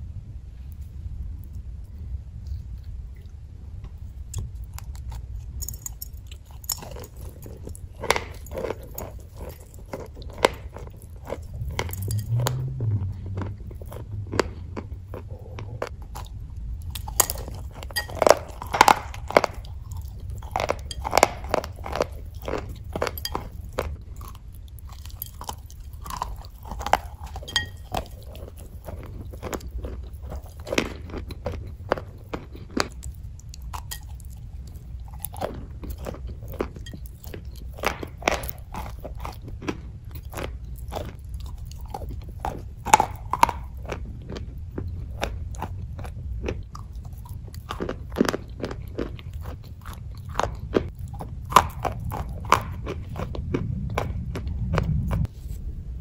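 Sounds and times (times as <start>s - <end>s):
crunchy biting and chewing: 0.7s - 55.7s.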